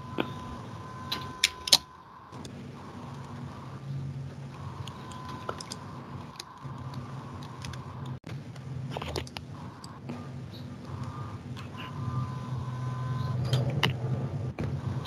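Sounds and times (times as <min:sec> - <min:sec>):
low background hum with tone: 0:00.0 - 0:15.0.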